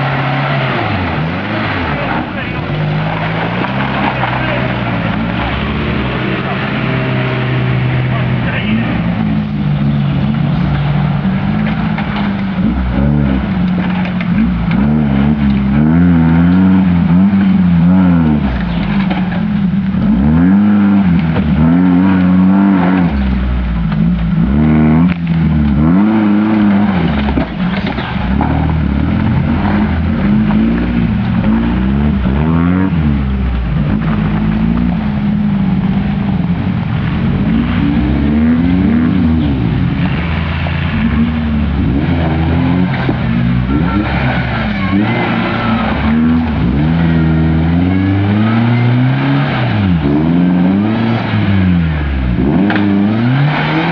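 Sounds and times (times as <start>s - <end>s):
off-road vehicle engine revving: 0.0s - 53.9s.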